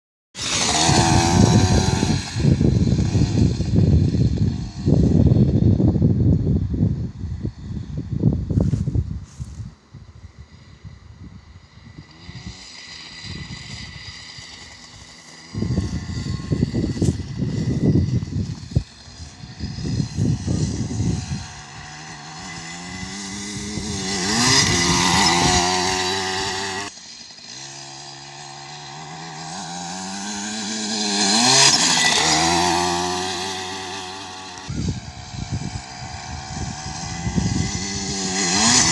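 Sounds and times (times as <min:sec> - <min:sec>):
motocross bike engine revving past: 0:00.4 - 0:06.1, 0:10.5 - 0:38.9
wind rumble on microphone: 0:00.5 - 0:26.9, 0:28.9 - 0:38.9.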